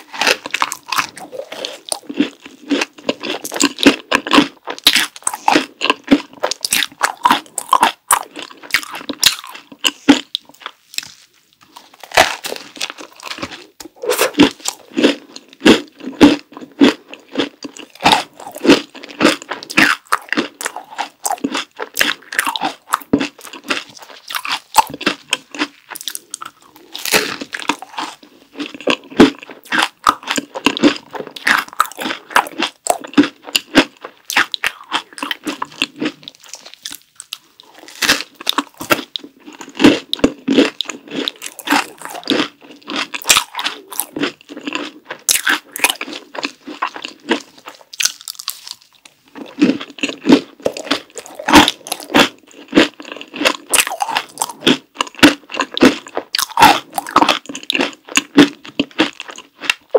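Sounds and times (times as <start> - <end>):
crunching and chewing: 0.0 - 59.9.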